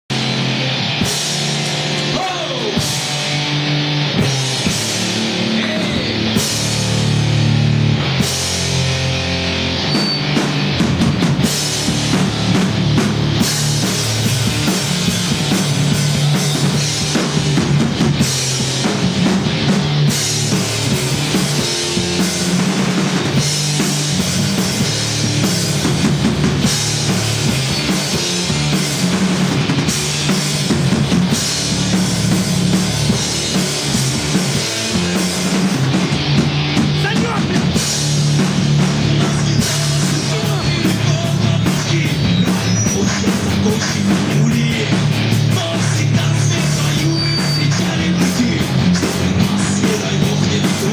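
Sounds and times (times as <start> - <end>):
drum kit steady beat: 0.1 - 50.9
rock band playing live: 0.1 - 50.9.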